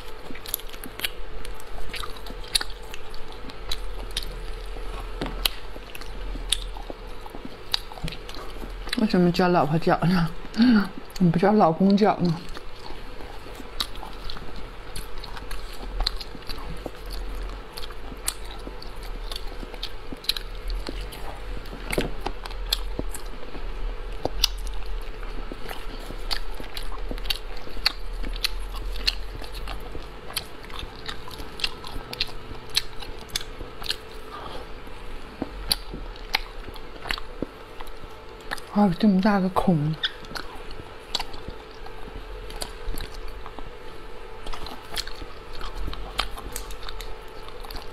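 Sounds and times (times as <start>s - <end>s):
person chewing and biting food: 0.0s - 9.2s, 10.1s - 38.8s, 40.0s - 47.9s.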